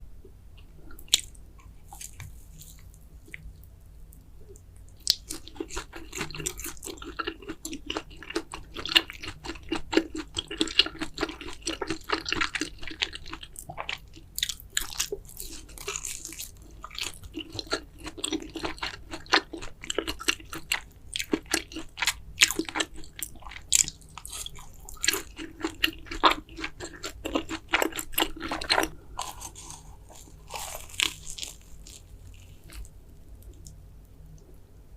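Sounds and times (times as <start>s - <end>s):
person chewing noodles: 0.6s - 3.5s, 5.0s - 33.8s.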